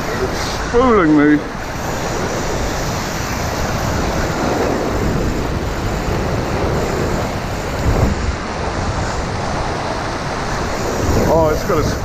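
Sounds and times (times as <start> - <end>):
surf washing on shore: 0.0 - 12.0
wind buffeting microphone: 0.0 - 12.0.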